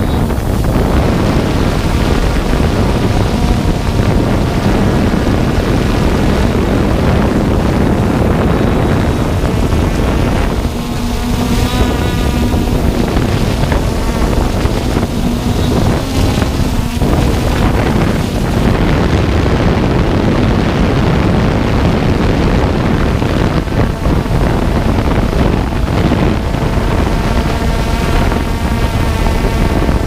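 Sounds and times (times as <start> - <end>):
drone rotors humming: 0.0 - 30.0
wind buffeting microphone: 0.0 - 30.0.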